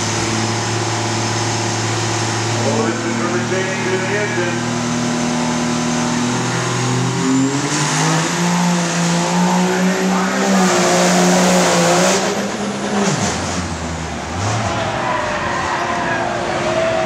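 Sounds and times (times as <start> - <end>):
diesel truck engine at full throttle: 0.0 - 17.0
tire noise: 0.0 - 17.0.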